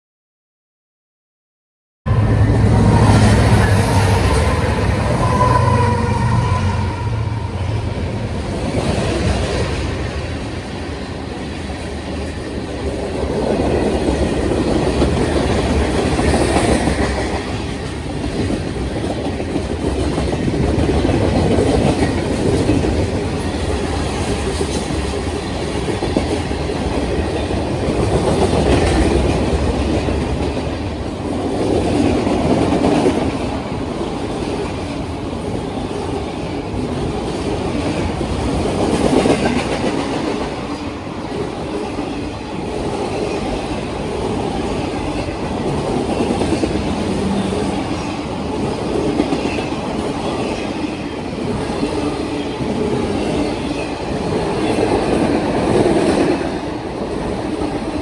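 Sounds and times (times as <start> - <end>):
freight train cars rolling past: 2.1 - 58.0.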